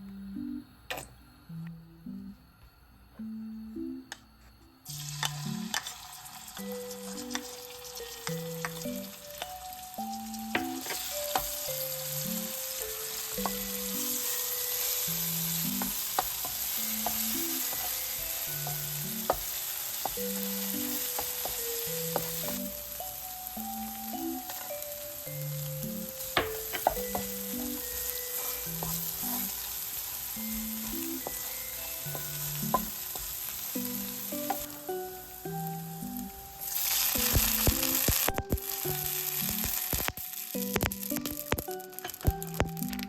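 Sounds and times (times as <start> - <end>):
food sizzling in hot oil: 4.9 - 43.0.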